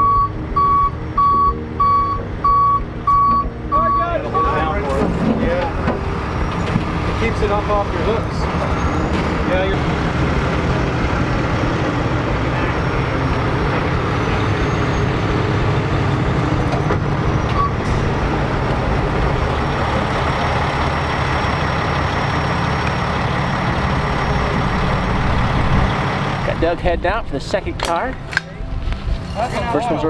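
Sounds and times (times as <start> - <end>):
diesel engine running: 0.0 - 29.4.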